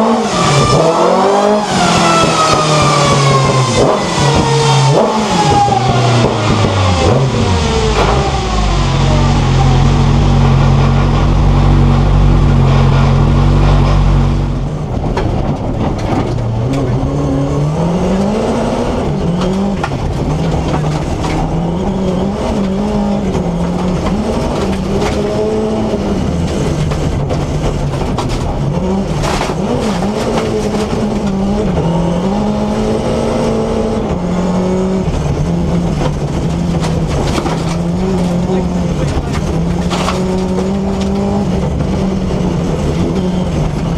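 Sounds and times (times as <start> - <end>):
car engine revving: 0.0 - 43.9
quieter engine revving: 0.0 - 43.9.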